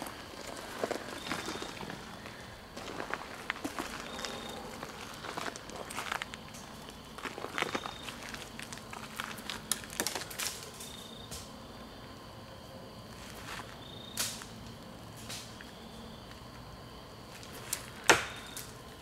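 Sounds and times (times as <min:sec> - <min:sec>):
dry leaves and twigs crackling: 0:00.0 - 0:11.8, 0:13.0 - 0:19.0.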